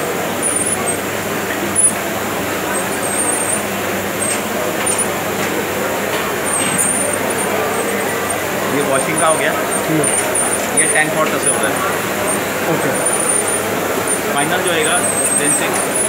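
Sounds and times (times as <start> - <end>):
dishwasher spraying water: 0.0 - 16.0.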